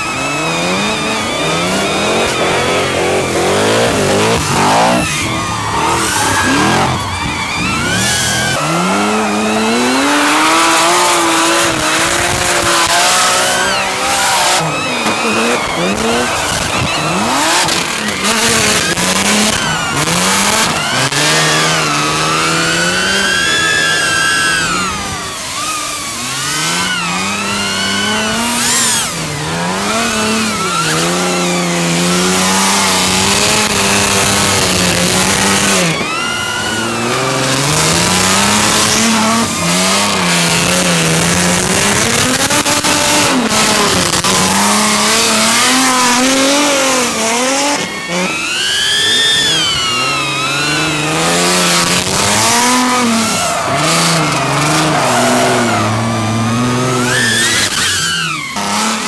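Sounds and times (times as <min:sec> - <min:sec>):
car engine revving: 0:00.0 - 0:59.0
tyre squeal: 0:00.0 - 0:59.0.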